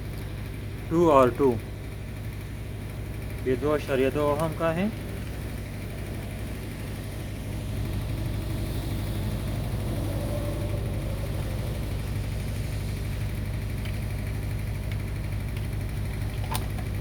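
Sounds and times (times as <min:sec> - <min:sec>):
low mechanical hum with flutter: 0:00.0 - 0:17.0.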